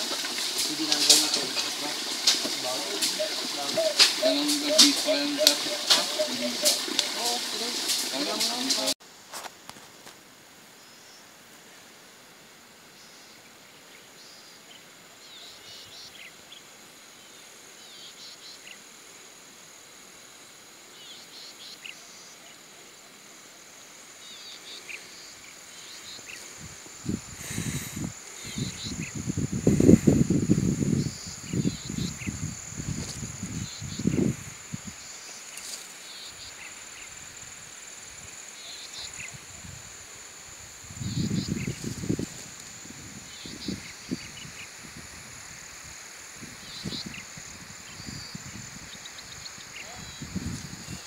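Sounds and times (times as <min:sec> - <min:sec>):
insects buzzing high-pitched: 0:00.0 - 0:09.0, 0:15.3 - 0:51.0
faint outdoor hiss: 0:00.0 - 0:51.0.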